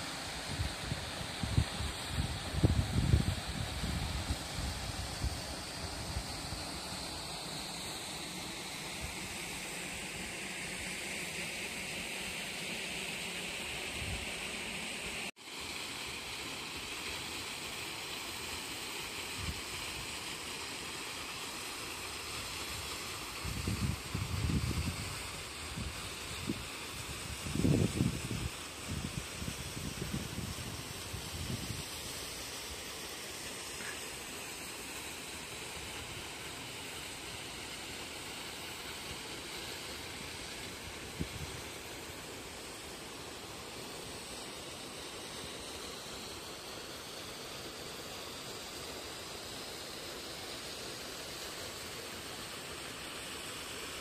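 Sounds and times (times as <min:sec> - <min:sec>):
creek and small waterfall rushing: 0:00.0 - 0:54.0.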